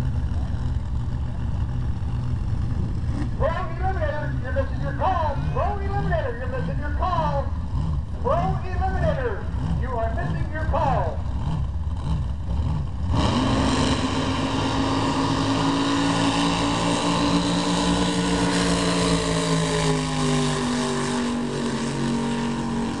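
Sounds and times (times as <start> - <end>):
drag boat engines roaring: 0.0 - 23.0.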